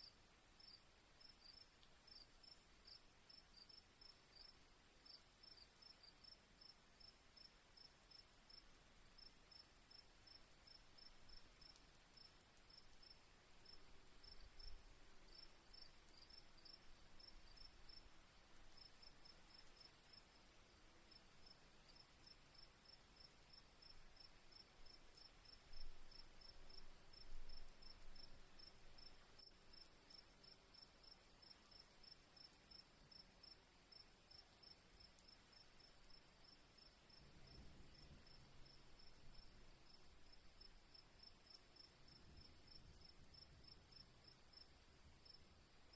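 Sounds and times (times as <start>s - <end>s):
crickets chirping: 0.6s - 45.9s.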